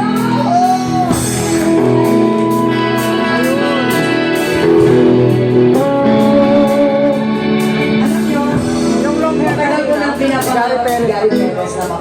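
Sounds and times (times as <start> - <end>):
guitar line with bent notes: 0.0 - 12.0
sustained keyboard chords: 0.0 - 12.0.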